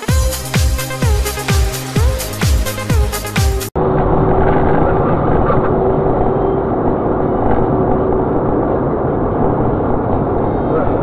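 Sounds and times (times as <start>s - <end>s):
car engine and road noise: 1.2s - 11.0s.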